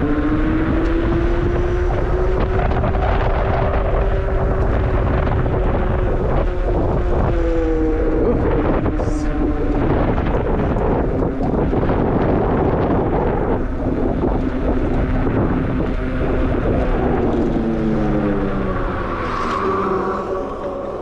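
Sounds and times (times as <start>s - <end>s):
electric bike motor whining: 0.0s - 21.0s
wind buffeting microphone: 0.0s - 21.0s.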